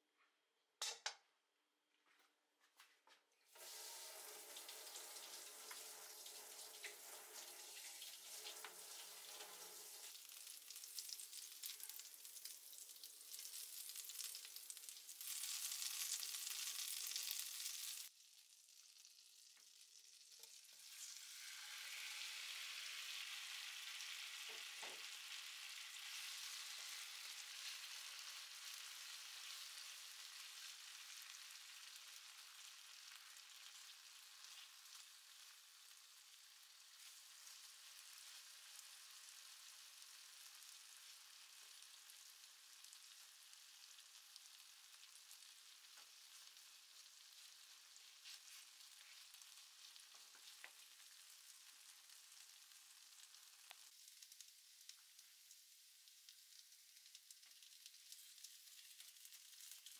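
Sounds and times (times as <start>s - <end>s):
butter sizzling in frying pan: 3.5s - 59.9s.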